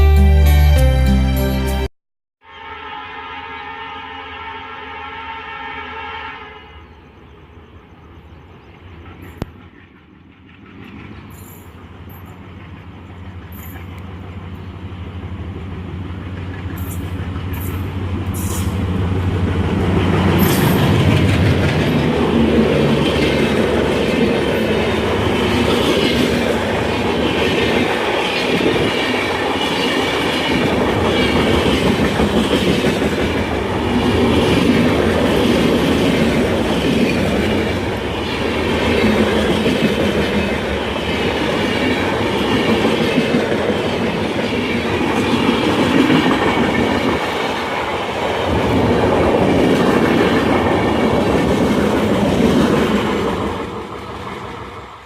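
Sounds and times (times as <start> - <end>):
diesel locomotive engine hum: 6.7 - 55.0
train wheel noise: 7.9 - 55.0
clickety-clack over rail joints: 8.9 - 14.6, 15.2 - 55.0.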